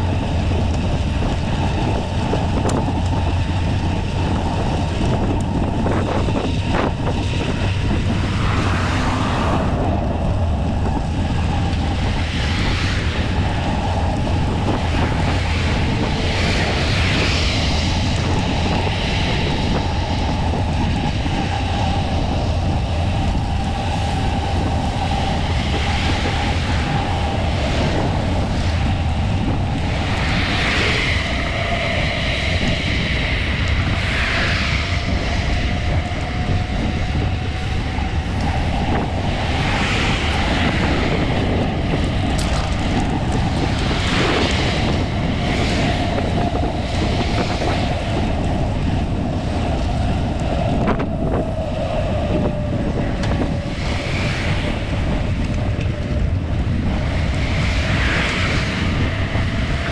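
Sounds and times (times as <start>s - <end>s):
road traffic: 0.0s - 59.9s
wind rumble on microphone: 0.0s - 59.9s.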